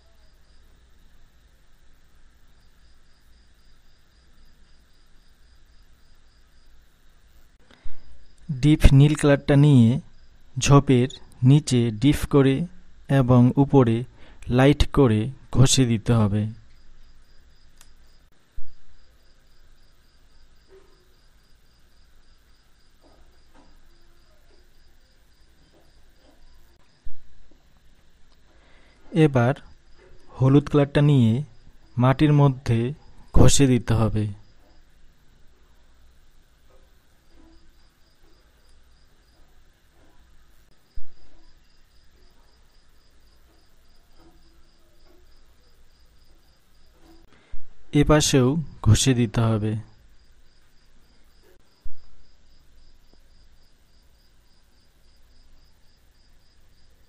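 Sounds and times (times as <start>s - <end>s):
insect chirping: 0.0s - 57.0s.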